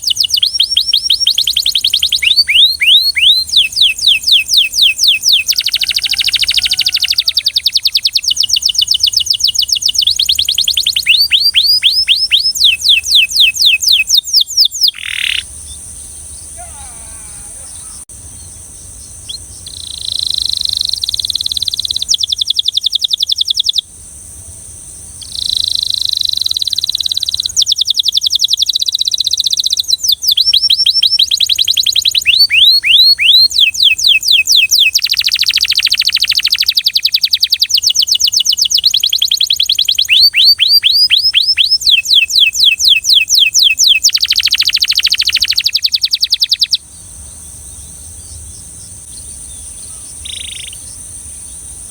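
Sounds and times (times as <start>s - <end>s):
canary singing trills: 0.0s - 23.9s, 25.1s - 51.9s.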